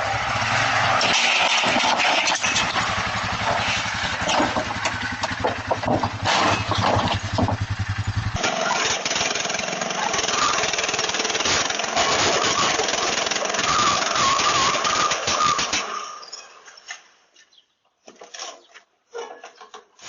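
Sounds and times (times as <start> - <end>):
small engine chugging: 0.0 - 16.5.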